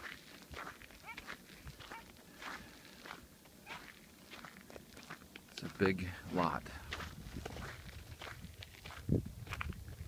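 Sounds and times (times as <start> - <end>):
footsteps on dry ground: 0.0 - 10.0.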